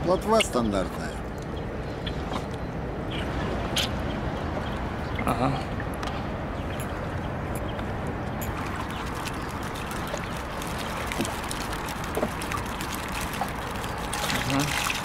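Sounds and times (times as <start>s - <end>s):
river water lapping: 0.3s - 15.0s.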